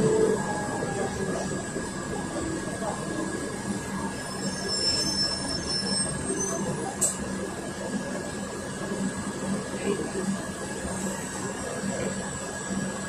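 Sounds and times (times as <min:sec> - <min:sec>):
bus engine humming: 0:00.0 - 0:05.2, 0:05.8 - 0:13.0.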